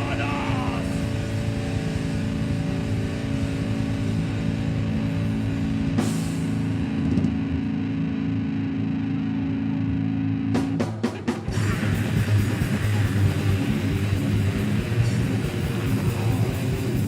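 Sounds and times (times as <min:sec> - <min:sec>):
heavy metal guitar and bass drone: 0:00.0 - 0:17.0.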